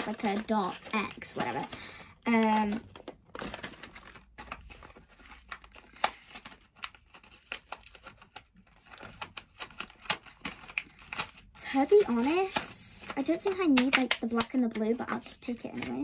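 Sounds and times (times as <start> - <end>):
blister pack crackling and tearing: 0.0 - 16.0.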